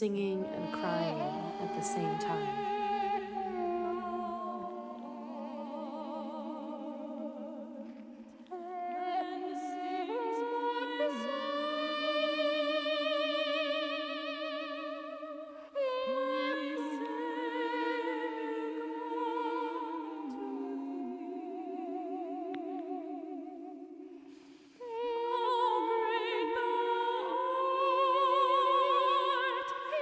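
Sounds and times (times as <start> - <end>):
layered soprano voice chords: 0.0 - 24.0.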